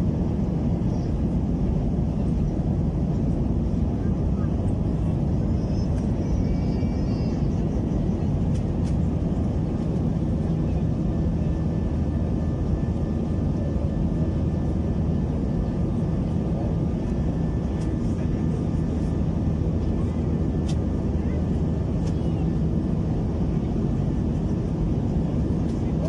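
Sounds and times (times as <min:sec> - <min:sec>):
airliner cabin jet engine rumble: 0:00.0 - 0:26.0.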